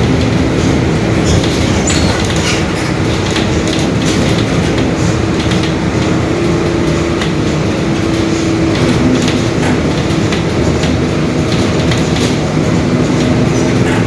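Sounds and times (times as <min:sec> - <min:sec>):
bus engine rumble: 0:00.0 - 0:14.0
rattles: 0:00.0 - 0:14.0.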